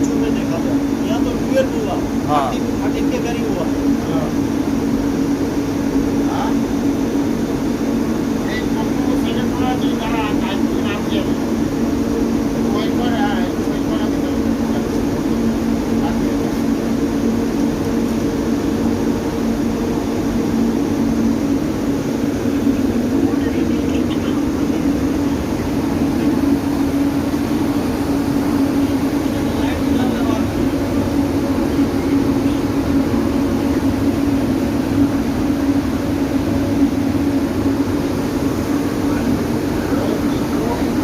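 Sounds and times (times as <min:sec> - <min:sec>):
fan rushing air with hum: 0:00.0 - 0:41.0.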